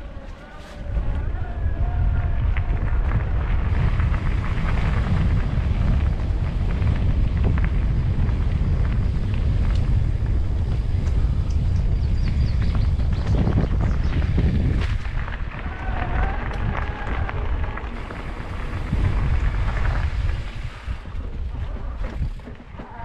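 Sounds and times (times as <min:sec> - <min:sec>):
tyres rolling on gravel: 0:00.0 - 0:23.0
wind buffeting microphone: 0:00.0 - 0:23.0.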